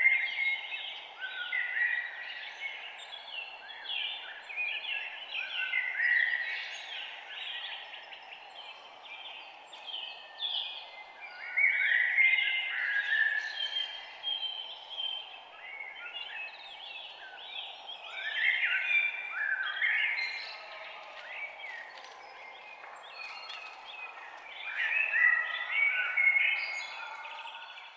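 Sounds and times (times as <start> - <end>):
songbirds chirping and twittering: 0.0 - 27.9.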